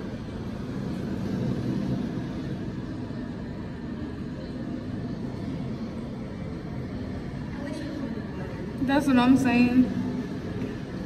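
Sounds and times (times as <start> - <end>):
low rumble background noise: 0.0 - 11.0.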